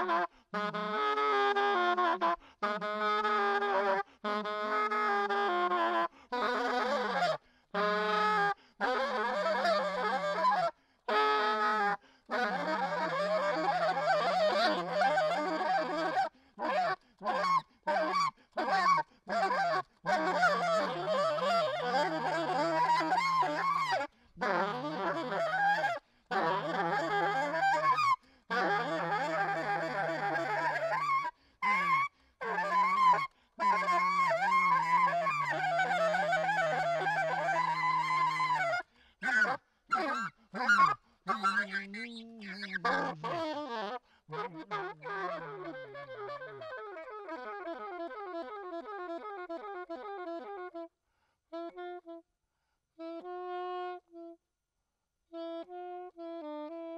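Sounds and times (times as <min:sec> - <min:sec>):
alto saxophone improvising: 0:00.0 - 0:50.9, 0:51.5 - 0:52.2, 0:53.0 - 0:54.4, 0:55.3 - 0:56.9.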